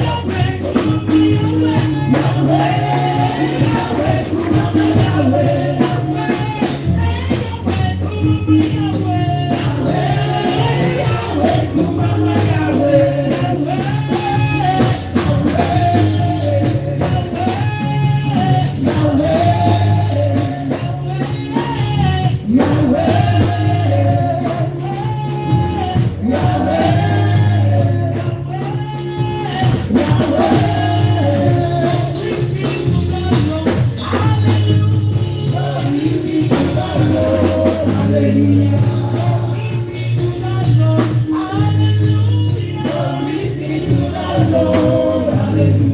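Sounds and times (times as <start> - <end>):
bass line: 0.0 - 45.9
tambourine-like percussion: 0.0 - 45.9
upbeat gospel music: 0.0 - 45.9.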